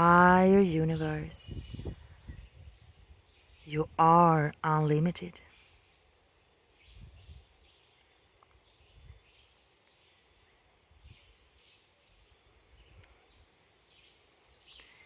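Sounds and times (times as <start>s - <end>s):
insects whining and chirping: 0.0s - 15.0s.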